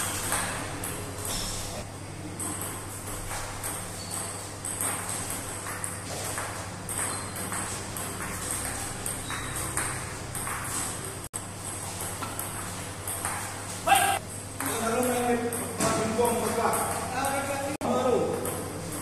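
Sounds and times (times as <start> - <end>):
ping-pong ball clicking off bats: 0.0 - 1.4, 2.3 - 13.7, 14.6 - 19.0
ping-pong ball bouncing on table: 0.0 - 1.5, 2.2 - 19.0.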